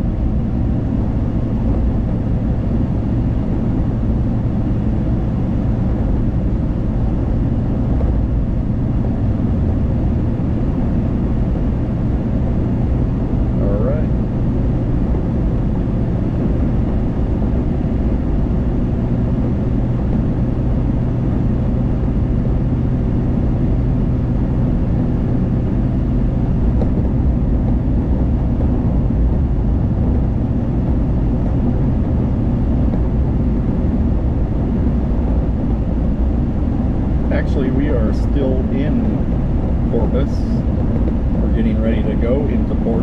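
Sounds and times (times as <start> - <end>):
car interior road and engine hum: 0.0 - 43.0.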